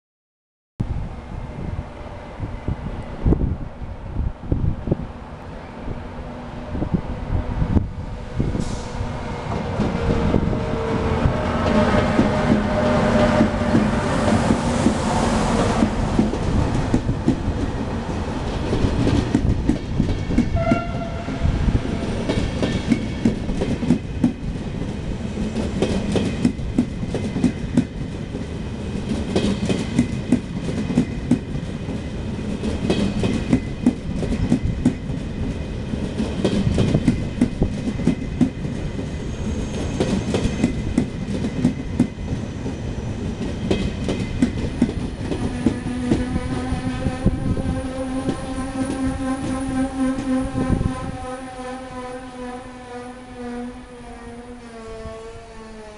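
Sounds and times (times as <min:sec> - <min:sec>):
train rumbling past: 0:00.8 - 0:55.9.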